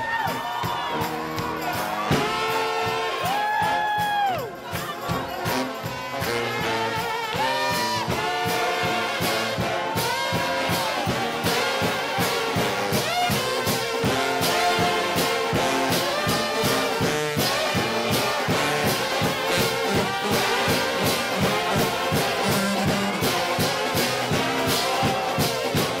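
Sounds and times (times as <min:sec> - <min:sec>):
brass band playing gospel: 0:00.0 - 0:26.0.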